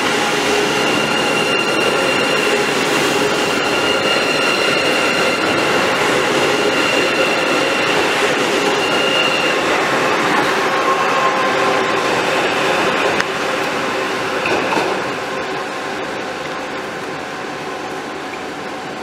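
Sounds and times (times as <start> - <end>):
electric train rumbling: 0.0 - 19.0
high train whine: 0.0 - 19.0.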